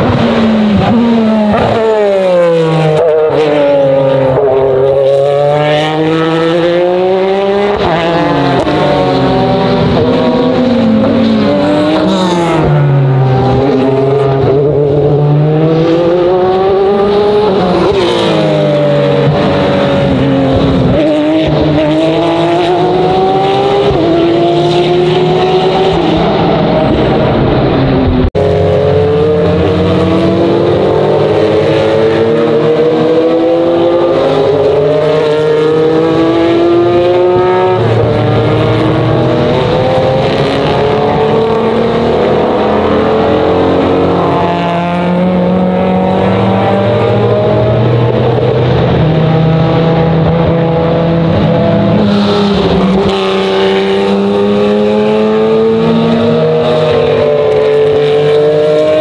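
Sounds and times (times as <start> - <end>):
racing cars passing: 0.0 - 59.0.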